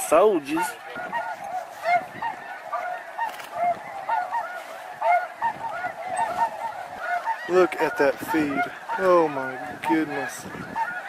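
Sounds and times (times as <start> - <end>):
snow geese honking: 0.0 - 11.0.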